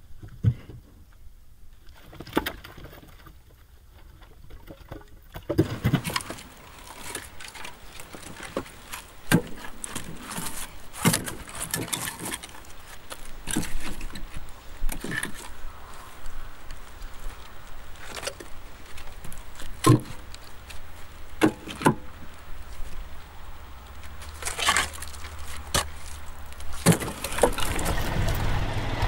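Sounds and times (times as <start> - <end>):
wooden logs knocking and clattering: 1.9 - 29.0
logs scraping: 5.5 - 29.0.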